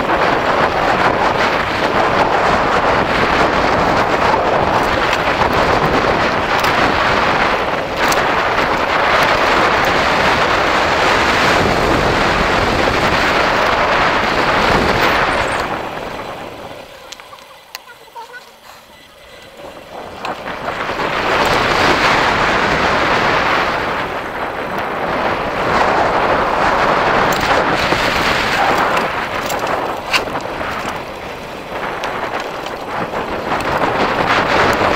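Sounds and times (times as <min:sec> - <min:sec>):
bicycle tyres on tarmac: 0:00.0 - 0:34.9
wind rushing over microphone: 0:00.0 - 0:34.9.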